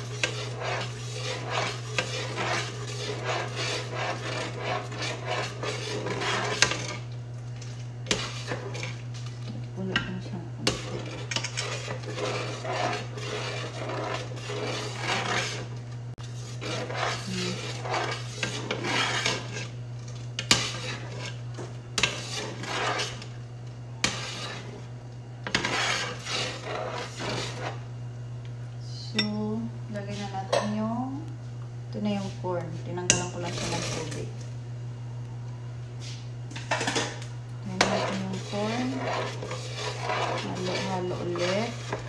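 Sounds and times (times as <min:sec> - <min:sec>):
spoon scraping metal pot: 0:00.0 - 0:23.4, 0:24.0 - 0:27.8, 0:33.1 - 0:34.4, 0:36.5 - 0:42.0.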